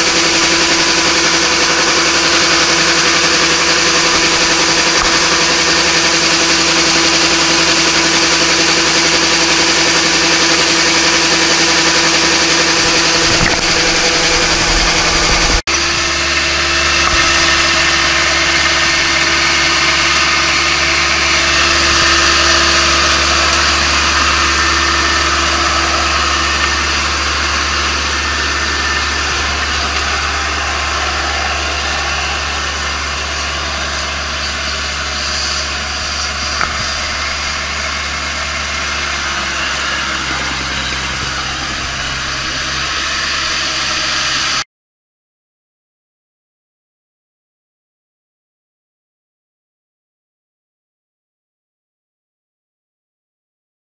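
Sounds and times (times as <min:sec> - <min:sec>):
combine harvester diesel engine: 0:00.0 - 0:44.6.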